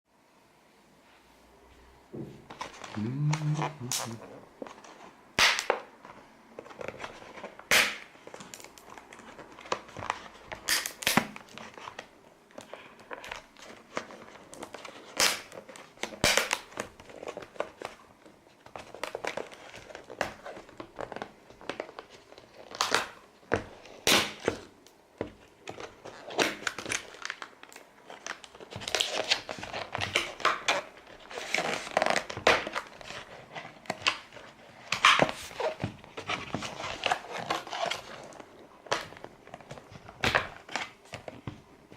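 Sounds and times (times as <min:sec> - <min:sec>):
packaging crinkling and tearing: 0:02.5 - 0:41.9.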